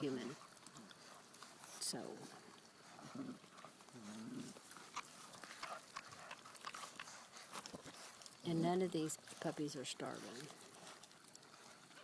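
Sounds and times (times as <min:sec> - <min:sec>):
puppies chewing and smacking: 0:00.0 - 0:12.0
puppy vocalization: 0:00.0 - 0:12.0.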